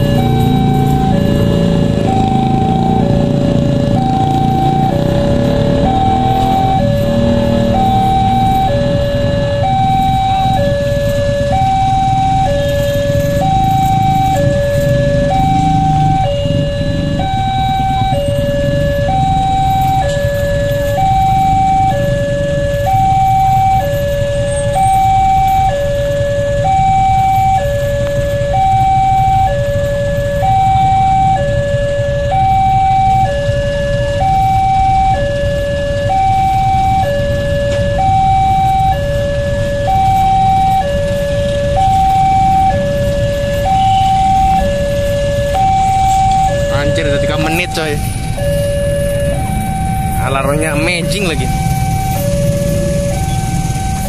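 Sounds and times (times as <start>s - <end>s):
low rumble of road traffic: 0.0s - 54.0s
two-tone electronic warning alarm: 0.0s - 54.0s.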